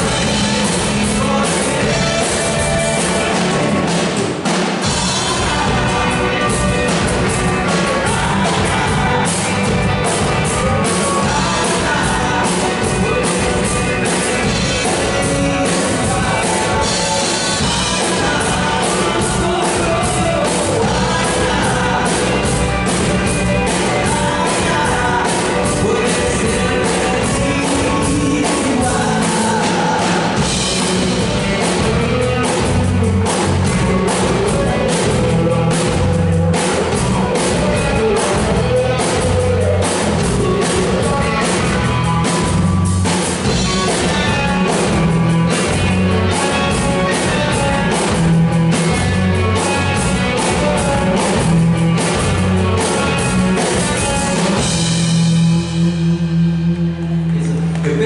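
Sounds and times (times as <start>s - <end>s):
drum kit: 0.0s - 58.0s
electric guitar: 0.0s - 58.0s
man singing: 0.0s - 58.0s
pulsing bass notes: 0.0s - 58.0s.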